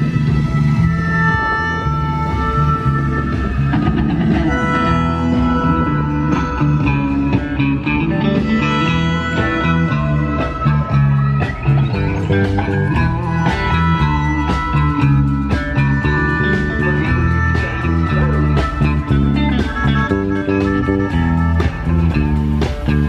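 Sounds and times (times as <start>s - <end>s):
guitar-led music: 0.0s - 23.0s.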